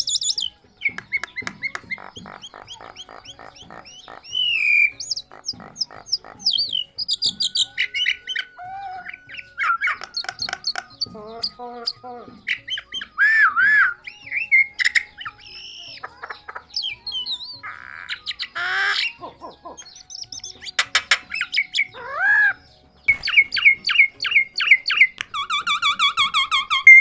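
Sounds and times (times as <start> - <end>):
myna whistles and squawks: 0.0 - 27.0.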